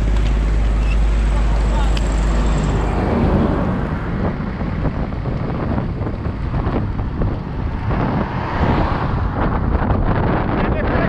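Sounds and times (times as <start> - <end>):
wind buffeting microphone: 2.0 - 11.0.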